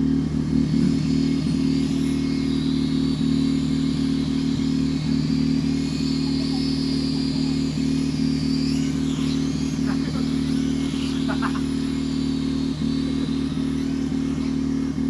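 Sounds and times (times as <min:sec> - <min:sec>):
engine-like drone: 0:00.0 - 0:15.0.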